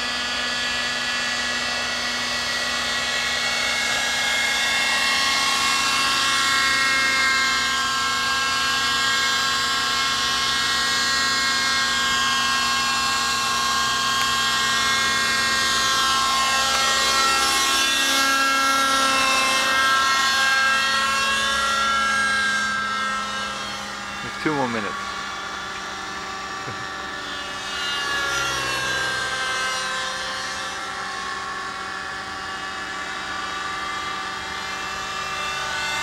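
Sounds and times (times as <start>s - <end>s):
model helicopter engine whine: 0.0s - 36.0s.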